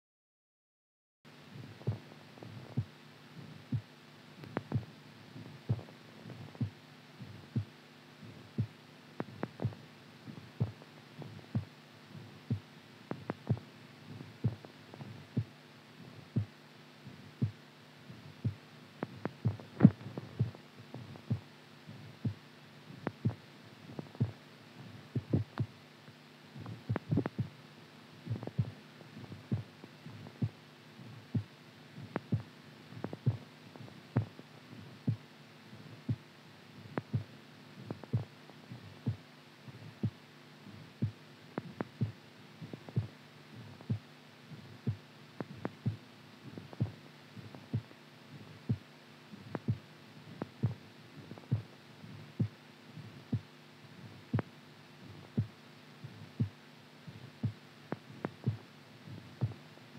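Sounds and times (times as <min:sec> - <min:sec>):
steady low hum: 0:01.3 - 0:59.9
heartbeat thuds: 0:01.6 - 0:25.8, 0:26.5 - 0:27.6, 0:28.2 - 0:59.6.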